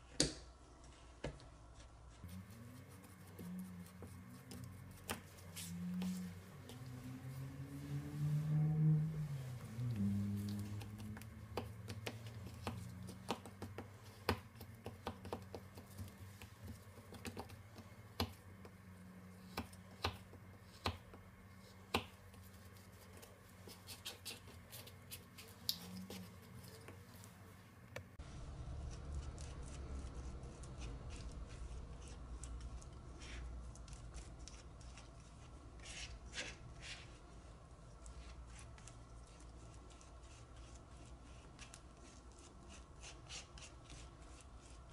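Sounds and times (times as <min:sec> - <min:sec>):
paint squishing and scraping: 0:00.8 - 0:44.9.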